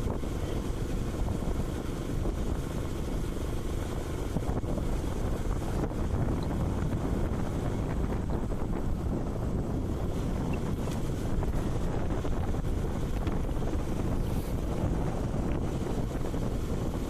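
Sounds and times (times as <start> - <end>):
low road and engine noise: 0.0 - 17.0
wind rushing over microphone: 0.0 - 17.0.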